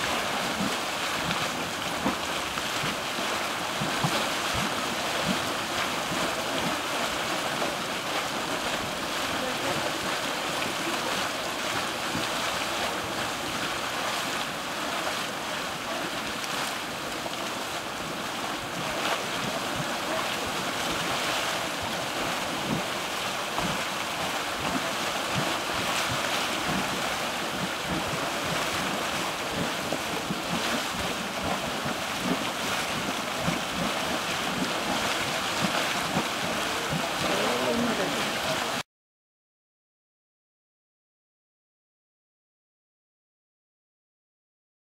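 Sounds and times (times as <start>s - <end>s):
mud plopping and thumping: 0.0s - 38.8s.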